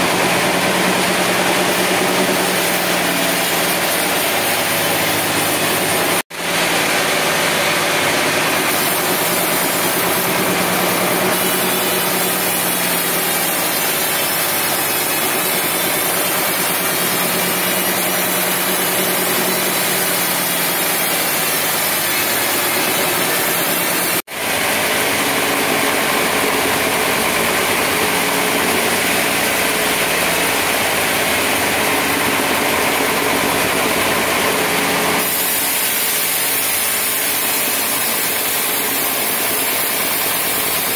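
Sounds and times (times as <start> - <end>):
band saw cutting log: 0.0 - 40.9
engine running steadily: 0.0 - 40.9.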